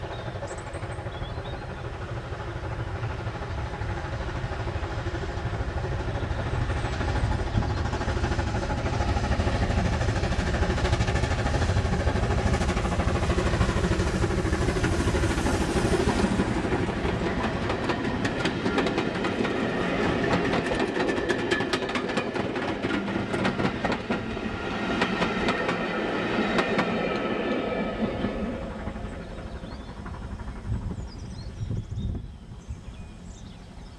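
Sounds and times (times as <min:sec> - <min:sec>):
steam locomotive rumble: 0:00.0 - 0:33.9
train wheels clicking over rail joints: 0:00.3 - 0:31.6.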